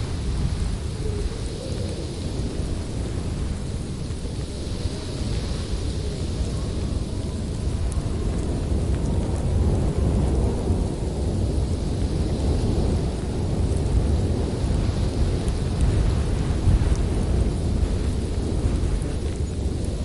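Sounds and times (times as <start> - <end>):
strong wind blowing: 0.0 - 20.0.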